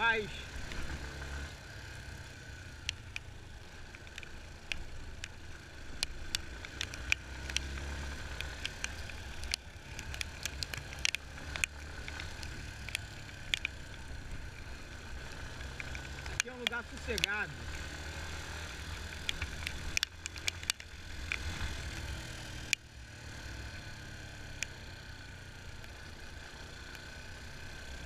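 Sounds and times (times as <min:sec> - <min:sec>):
motorcycle engine running: 0:00.0 - 0:28.0
sharp ticks and clicks: 0:02.1 - 0:28.0.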